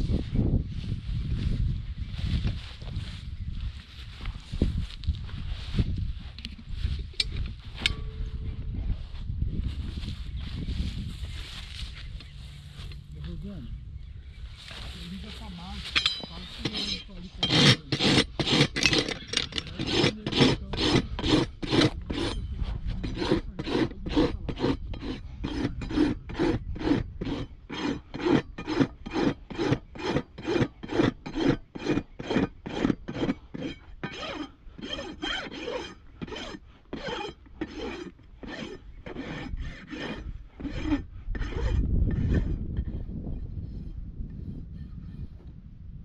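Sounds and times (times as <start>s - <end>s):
hoof rasp scraping: 2.3s - 45.5s.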